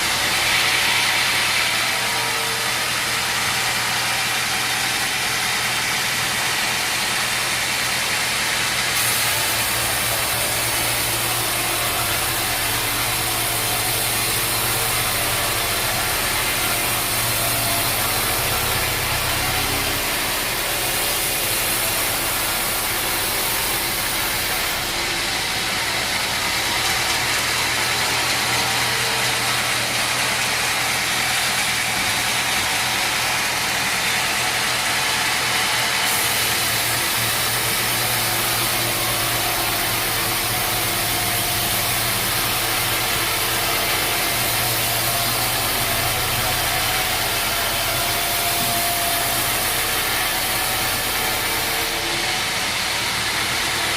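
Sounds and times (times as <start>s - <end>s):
noisy machinery hiss: 0.0s - 53.9s
sawmill motor humming: 0.0s - 53.9s.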